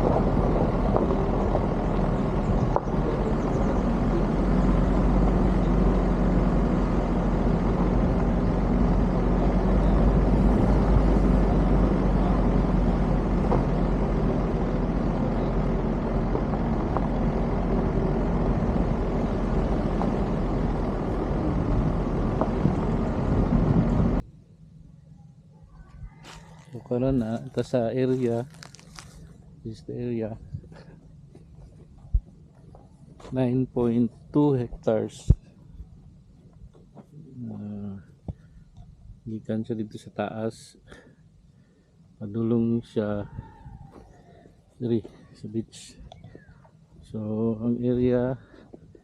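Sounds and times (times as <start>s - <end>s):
vehicle engine running: 0.0s - 43.2s
road and wind noise: 0.0s - 49.0s.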